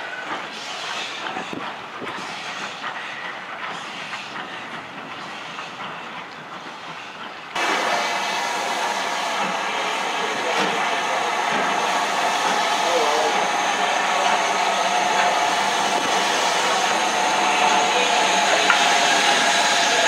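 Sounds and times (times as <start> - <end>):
train wheels clicking over rail joints: 0.0 - 7.7, 8.5 - 20.0
steam hissing: 0.0 - 20.0.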